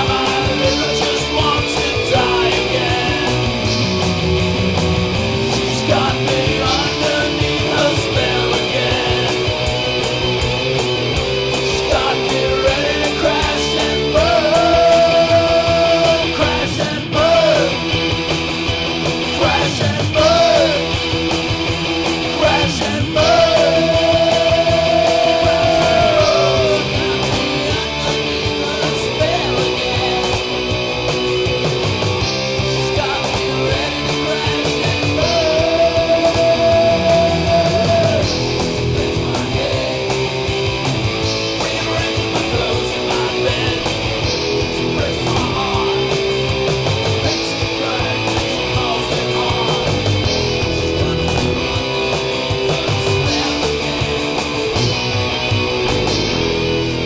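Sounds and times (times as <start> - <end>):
rock song with drums and guitars: 0.0 - 57.0.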